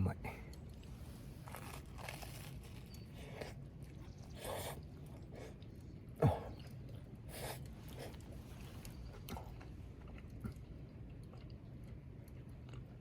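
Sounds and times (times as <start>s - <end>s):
person chewing food: 0.5s - 13.0s.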